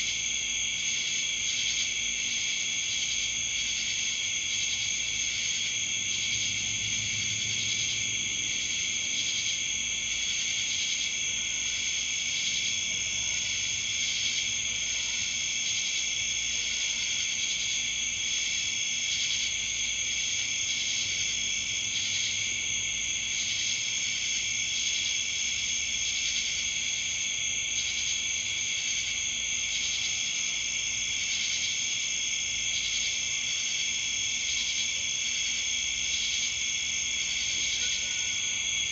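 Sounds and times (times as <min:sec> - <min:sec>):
crickets chirping: 0:00.0 - 0:38.9
fast pulsing insect trill: 0:00.0 - 0:38.9.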